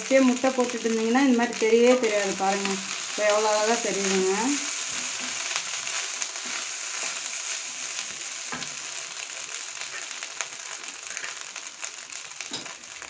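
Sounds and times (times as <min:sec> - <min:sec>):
rice sizzling in a pan: 0:00.0 - 0:13.0.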